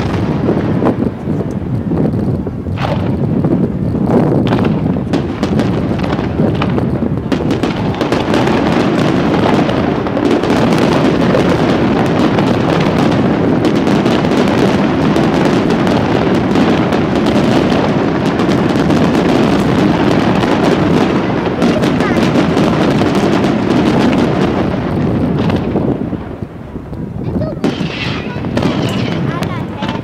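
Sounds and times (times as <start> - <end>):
firework crackling: 0.0 - 30.0
firework shells bursting: 0.0 - 30.0.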